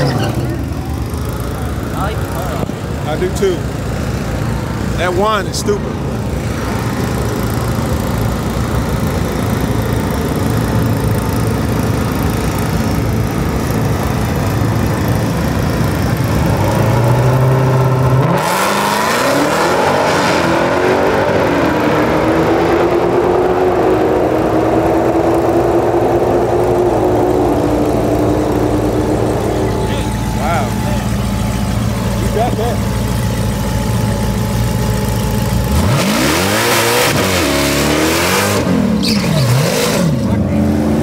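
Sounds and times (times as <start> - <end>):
car engine rumbling and accelerating: 0.0 - 41.0.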